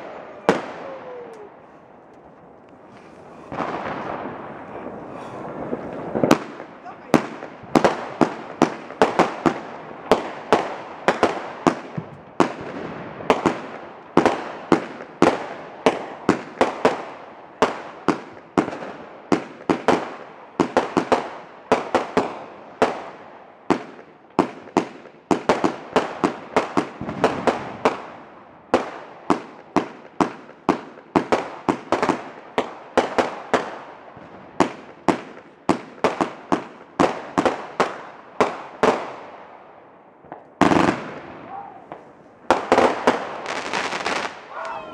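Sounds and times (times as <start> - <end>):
fireworks bangs: 0.0 - 39.6, 40.2 - 44.9.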